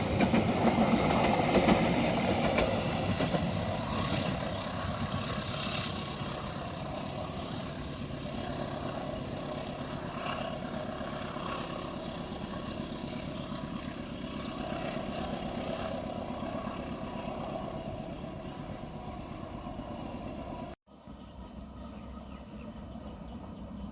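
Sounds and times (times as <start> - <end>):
train wheels rumbling on rail: 0.0 - 20.6.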